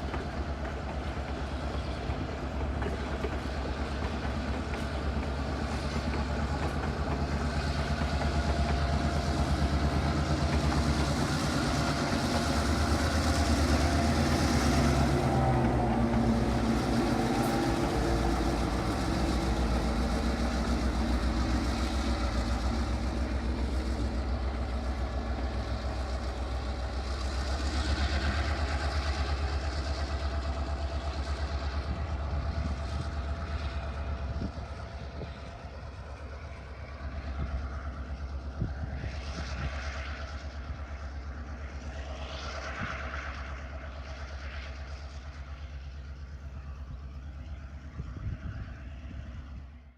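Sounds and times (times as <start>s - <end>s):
diesel locomotive engine under load: 0.0s - 49.9s.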